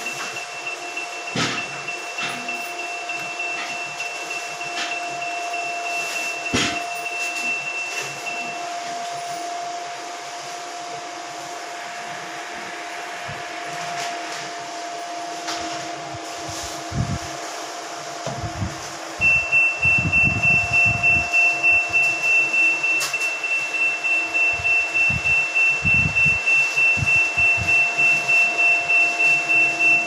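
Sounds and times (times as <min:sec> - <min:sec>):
steady hum: 0:00.0 - 0:30.0
washing machine continuous beep: 0:00.0 - 0:30.0.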